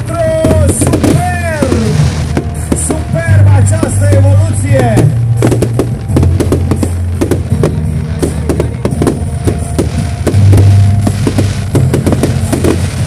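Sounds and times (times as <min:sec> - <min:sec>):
fireworks crackling and popping: 0:00.0 - 0:13.0
music with low bass notes: 0:00.0 - 0:13.0.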